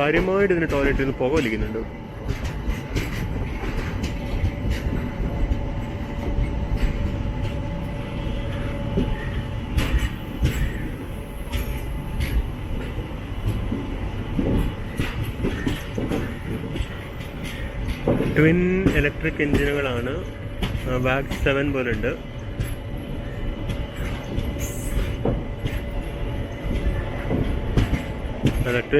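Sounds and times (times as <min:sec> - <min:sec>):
wheels clicking over rail joints: 0:00.0 - 0:07.6, 0:08.2 - 0:28.9
train wheels rumbling on track: 0:00.0 - 0:28.9.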